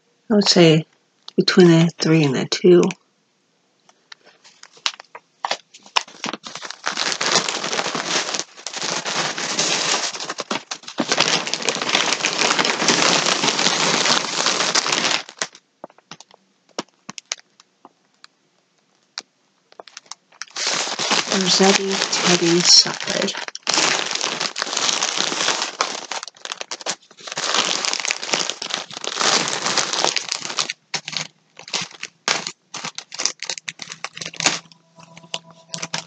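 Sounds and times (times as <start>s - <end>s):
crackles: 3.8s - 36.0s
packaging crinkling and rustling: 4.1s - 36.0s.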